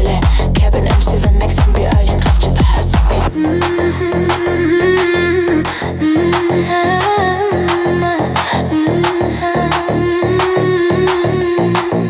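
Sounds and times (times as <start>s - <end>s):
pulsing low beat: 0.0s - 12.0s.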